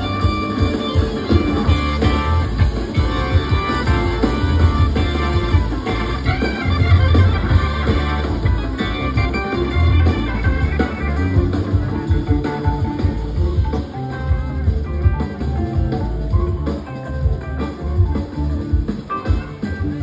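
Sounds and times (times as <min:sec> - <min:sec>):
drums: 0:00.0 - 0:20.0
electric guitar solo: 0:00.0 - 0:20.0.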